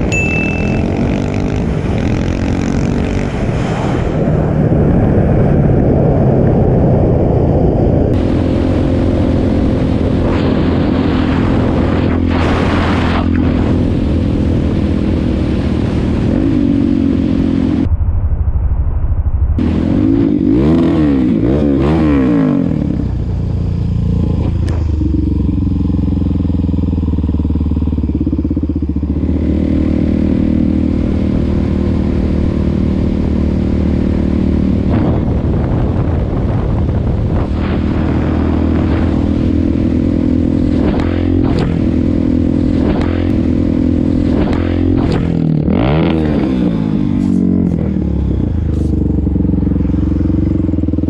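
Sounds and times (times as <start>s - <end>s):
motorcycle engine revving: 0.0s - 7.2s, 8.0s - 17.9s, 19.6s - 51.0s.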